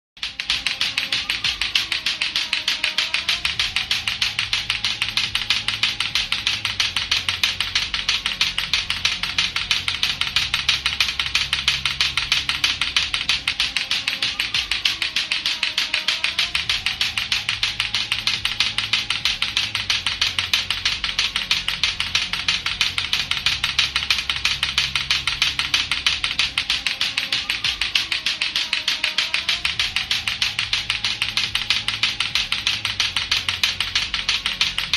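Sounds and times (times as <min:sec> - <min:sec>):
clacker toy clacking rapidly: 0:00.2 - 0:34.9.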